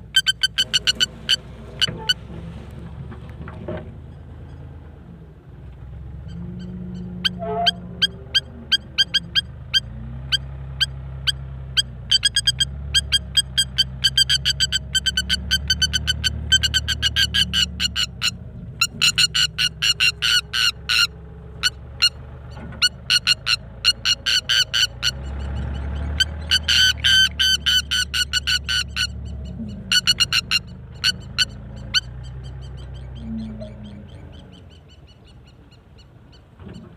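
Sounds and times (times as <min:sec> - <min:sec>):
bird giving sharp high calls: 0:00.0 - 0:02.2, 0:06.3 - 0:22.2, 0:22.8 - 0:36.8.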